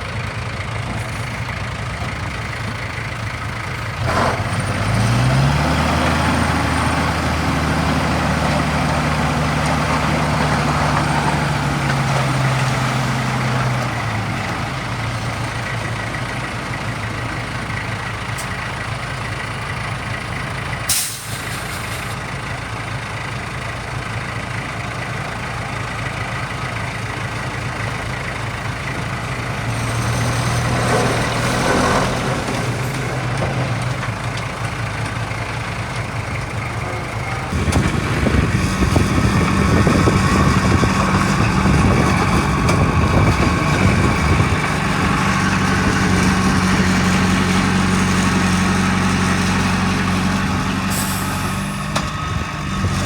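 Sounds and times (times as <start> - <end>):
heavy machinery diesel engines: 0.0 - 53.0.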